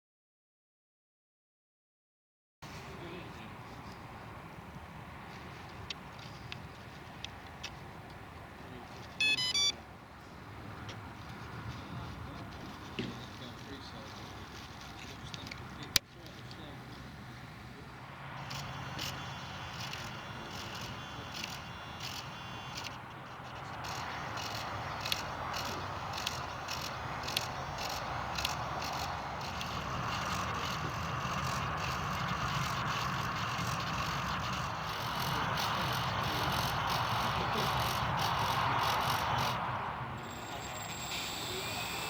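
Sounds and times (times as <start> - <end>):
small electric motor and propeller: 2.6 - 42.0.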